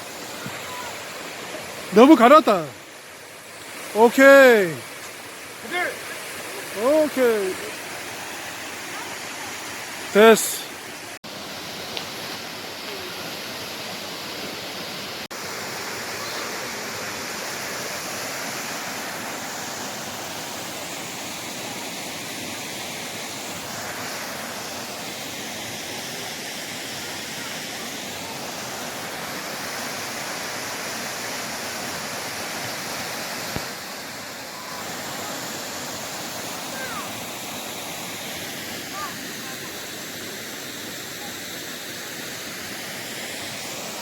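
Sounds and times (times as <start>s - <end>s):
stream rushing: 0.0s - 44.0s.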